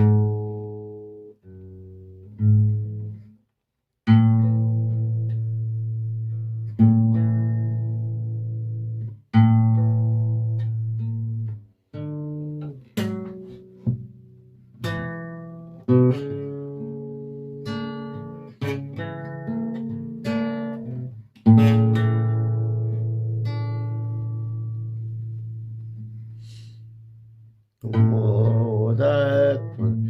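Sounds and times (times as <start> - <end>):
plucked guitar notes and chords: 0.0 - 3.3, 4.0 - 30.0.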